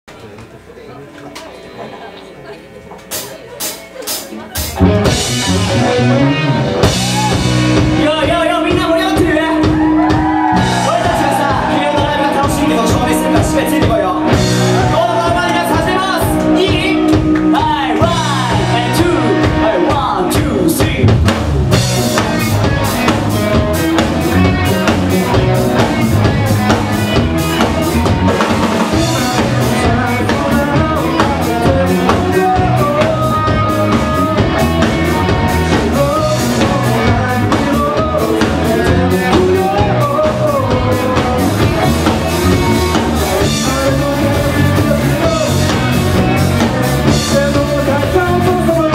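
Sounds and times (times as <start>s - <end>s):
electric guitars: 2.9s - 48.9s
drum kit beat: 3.0s - 48.9s
bass guitar: 3.1s - 48.9s.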